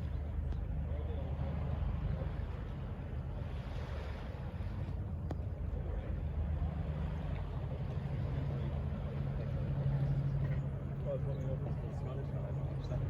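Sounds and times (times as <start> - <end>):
city and shoreline background: 0.0 - 13.0
low engine hum: 0.0 - 13.0.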